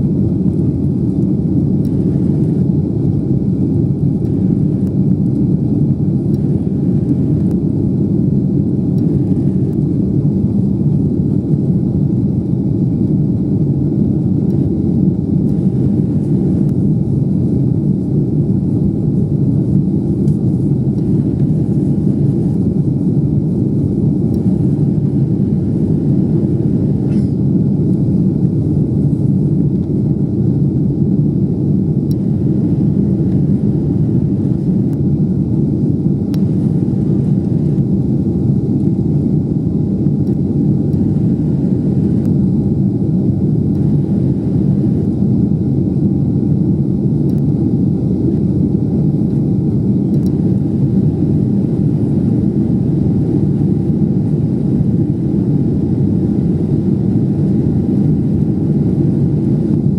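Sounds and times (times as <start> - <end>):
faint steady whine: 0.0 - 59.9
jet engine roar in cabin: 0.0 - 59.9.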